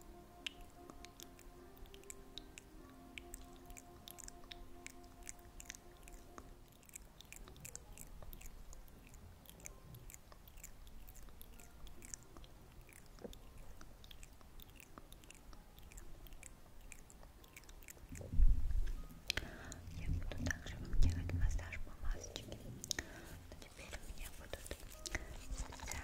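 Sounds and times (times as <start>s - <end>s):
sustained music tone: 0.0s - 26.0s.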